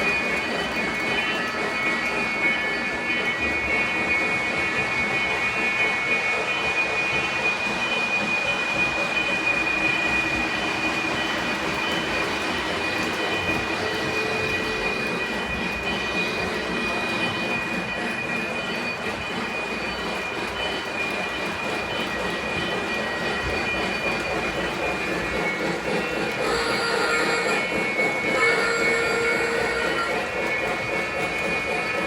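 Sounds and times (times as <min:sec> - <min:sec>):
model train wheels rumbling: 0:00.0 - 0:32.0.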